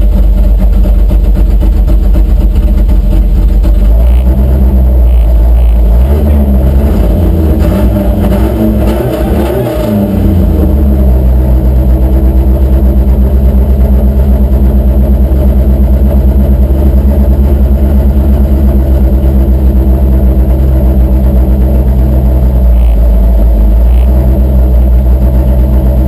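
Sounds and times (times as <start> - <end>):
truck engine running loud: 0.0 - 26.0.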